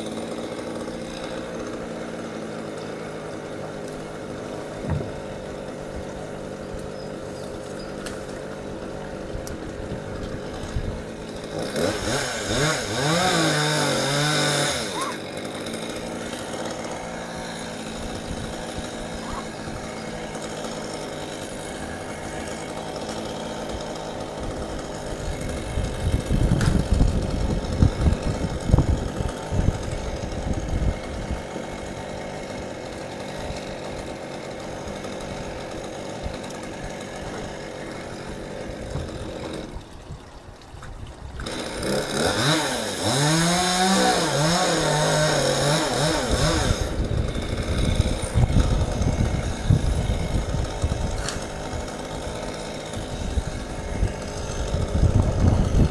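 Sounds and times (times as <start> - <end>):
chainsaw revving and idling: 0.0 - 40.1, 41.4 - 55.9.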